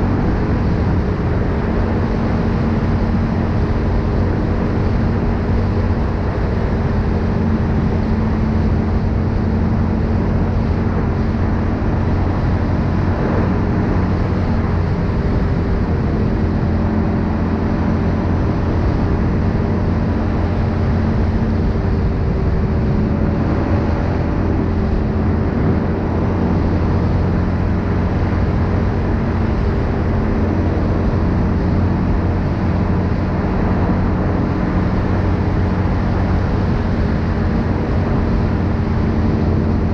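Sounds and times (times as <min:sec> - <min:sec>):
atv engine cruising: 0:00.0 - 0:39.9
wind and road noise: 0:00.0 - 0:39.9.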